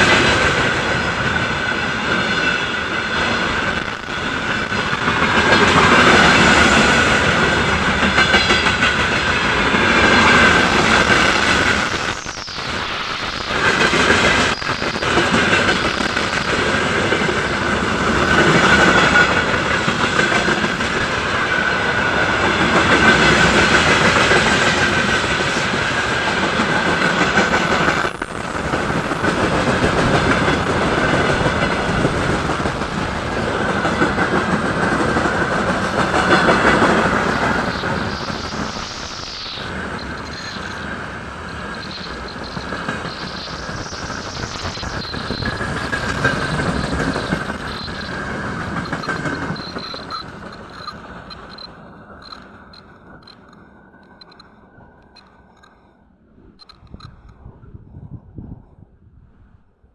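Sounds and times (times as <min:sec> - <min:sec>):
high-pitched wheel whine: 0:00.0 - 0:55.5
train wheels clattering on rails: 0:00.0 - 0:55.8.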